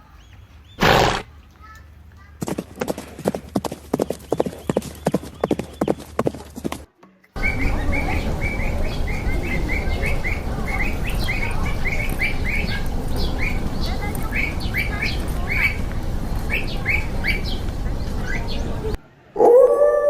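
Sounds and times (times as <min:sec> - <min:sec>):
bird chirping: 0:00.0 - 0:01.8, 0:02.4 - 0:06.8, 0:07.4 - 0:18.9
steady background noise: 0:00.0 - 0:19.4.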